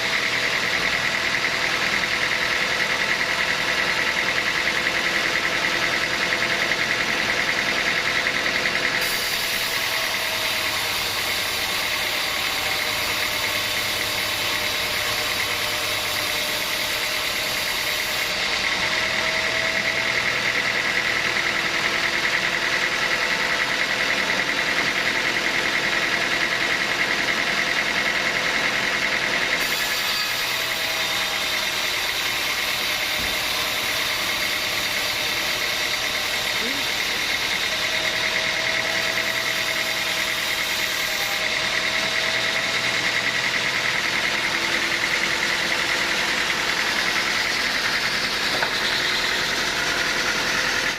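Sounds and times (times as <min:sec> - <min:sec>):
high machine whine: 0:00.0 - 0:50.9
sawmill machinery drone: 0:00.0 - 0:50.9.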